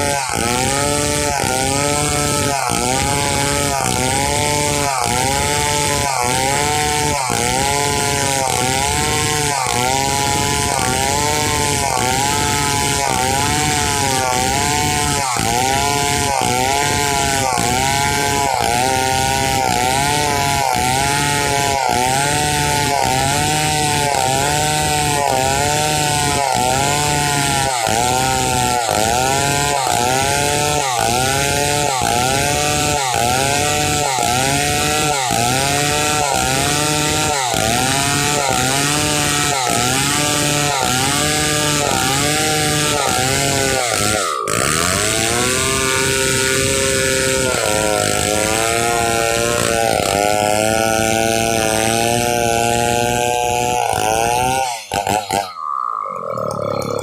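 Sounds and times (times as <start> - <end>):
chainsaw ripping a log: 0.0 - 55.6, 56.4 - 57.0.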